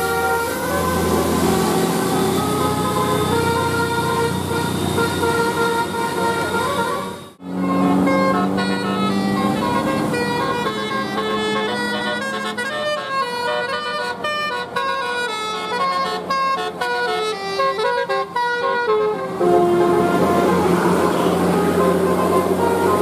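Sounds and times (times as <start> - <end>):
musical multi-tone air horn: 0.0 - 23.0.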